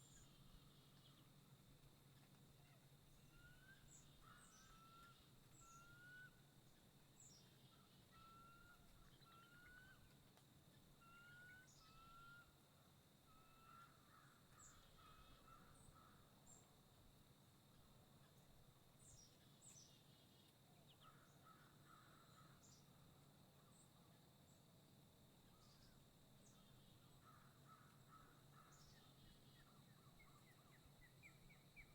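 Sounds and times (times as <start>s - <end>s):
faint birdsong: 0.0s - 17.1s, 17.7s - 31.9s.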